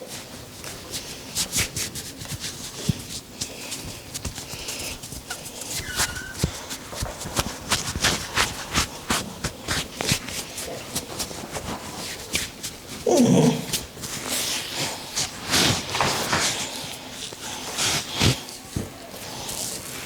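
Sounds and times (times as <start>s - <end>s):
hands patting on head: 0.6s - 19.7s.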